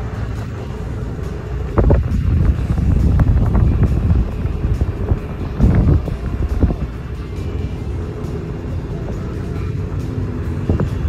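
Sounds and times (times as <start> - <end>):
music: 0.0 - 11.0
road rumble from vehicle: 0.0 - 11.0
wind buffeting microphone: 0.0 - 11.0.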